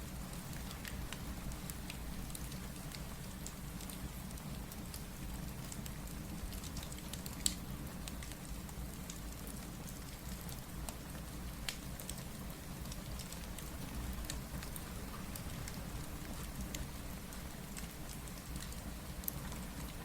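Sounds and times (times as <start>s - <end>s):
steady rain: 0.0s - 20.0s
wood fire crackling and popping: 0.3s - 20.0s.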